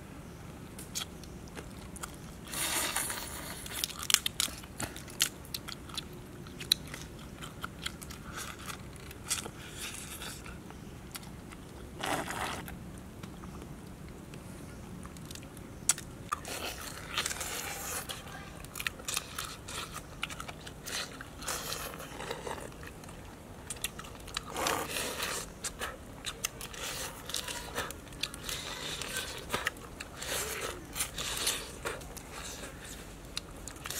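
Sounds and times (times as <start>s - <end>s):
shells cracking and chewing: 0.8s - 14.4s, 15.0s - 33.9s.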